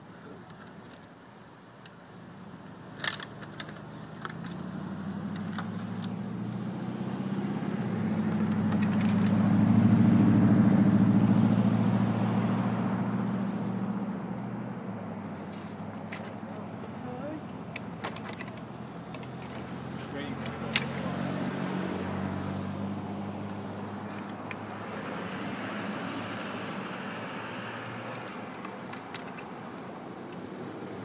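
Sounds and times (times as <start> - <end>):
car engine humming: 2.0 - 31.0.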